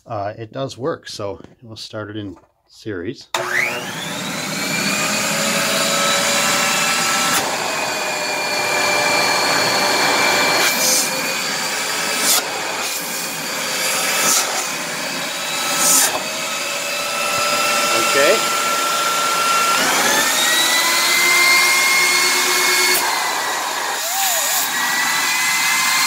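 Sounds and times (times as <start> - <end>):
vacuum motors running: 3.4 - 26.0.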